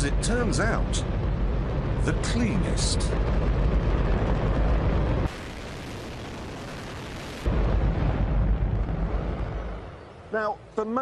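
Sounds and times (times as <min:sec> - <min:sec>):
rocket engine roar: 0:00.0 - 0:10.3.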